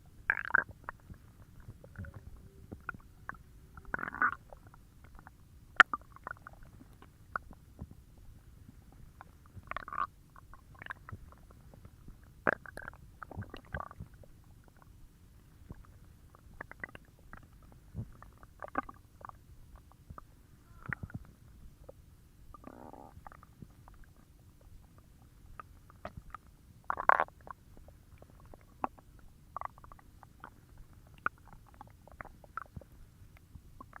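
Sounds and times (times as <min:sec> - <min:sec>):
stomach growling and gurgling: 0:00.0 - 0:34.0.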